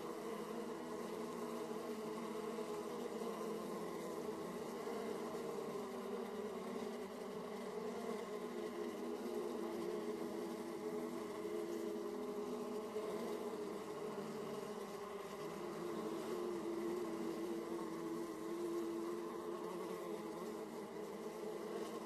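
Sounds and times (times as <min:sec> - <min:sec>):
honey bees buzzing: 0:00.1 - 0:22.0.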